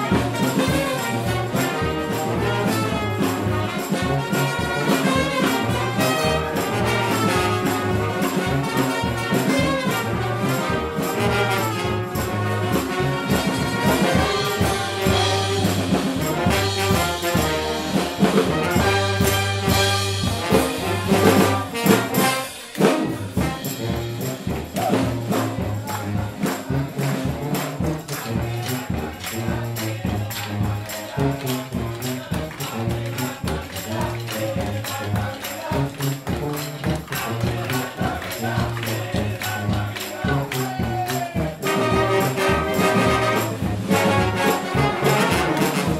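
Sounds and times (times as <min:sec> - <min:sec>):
brass band playing funk: 0:00.0 - 0:45.9
percussion beat: 0:00.0 - 0:45.9.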